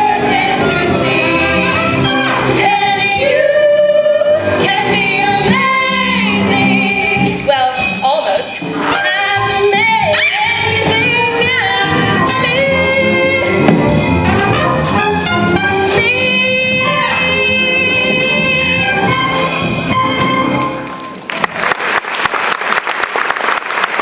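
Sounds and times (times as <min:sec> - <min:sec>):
brass-heavy band: 0:00.0 - 0:07.8, 0:08.5 - 0:21.3
woman singing: 0:00.0 - 0:20.6.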